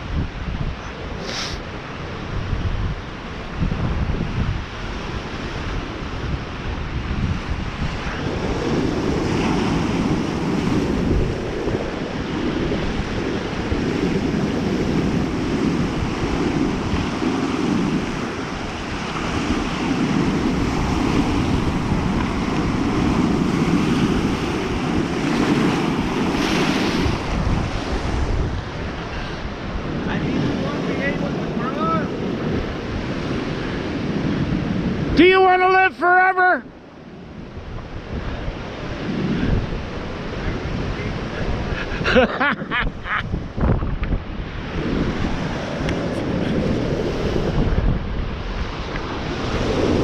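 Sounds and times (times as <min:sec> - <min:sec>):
waves rushing on shore: 0:00.0 - 0:50.0
wind gusting against microphone: 0:00.0 - 0:50.0.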